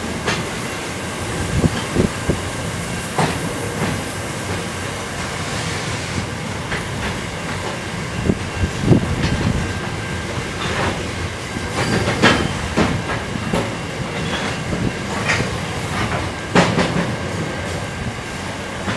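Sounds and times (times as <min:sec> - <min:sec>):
wheels clacking over rail joints: 0:00.0 - 0:05.6, 0:06.2 - 0:17.9
freight train rumble: 0:00.0 - 0:18.9.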